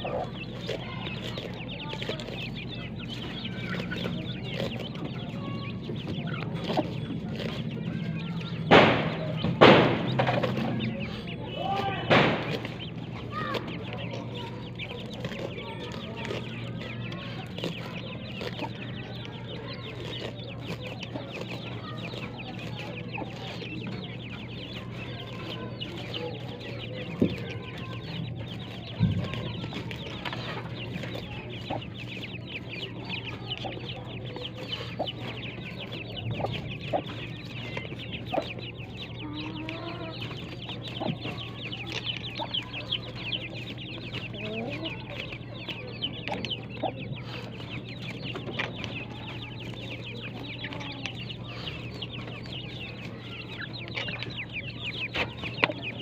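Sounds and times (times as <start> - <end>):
chicks cheeping and clucking: 0.0 - 56.0
steady low hum: 0.0 - 56.0.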